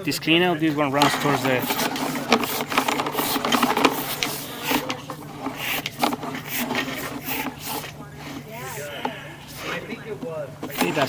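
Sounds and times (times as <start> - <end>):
cable clicking and rattling in pipe: 0.0 - 11.0
steady low hum: 0.0 - 11.0.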